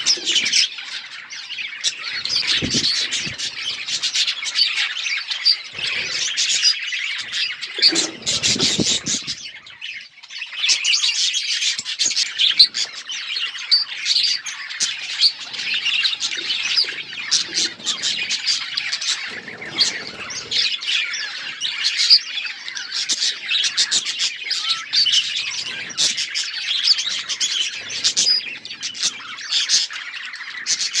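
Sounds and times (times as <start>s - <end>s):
budgerigars chirping and chattering: 0.0s - 31.0s.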